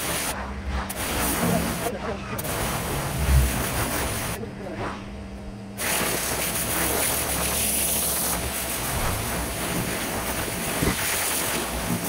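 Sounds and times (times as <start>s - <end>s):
pressure washer spraying: 0.0s - 4.4s, 5.8s - 12.0s.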